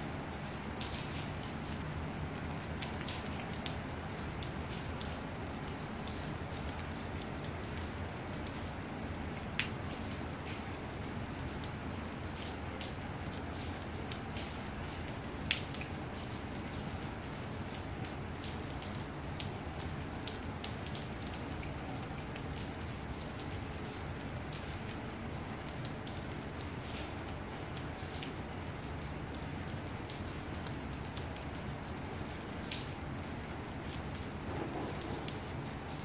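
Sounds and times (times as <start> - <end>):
raindrops ticking on a surface: 0.0 - 36.0.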